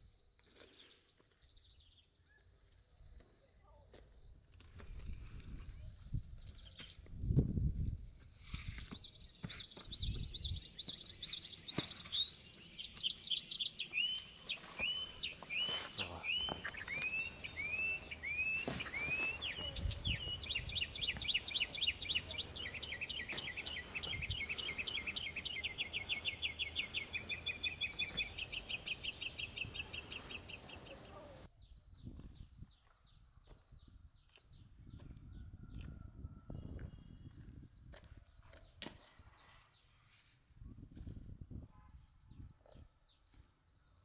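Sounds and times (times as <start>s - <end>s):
songbird singing: 0.0s - 40.4s.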